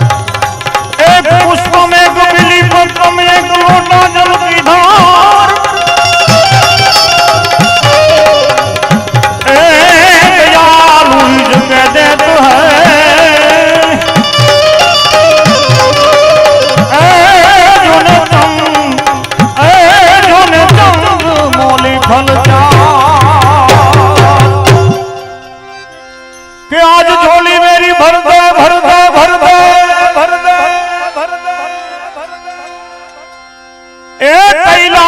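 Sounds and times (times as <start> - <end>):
tabla rhythm: 0.0 - 35.0.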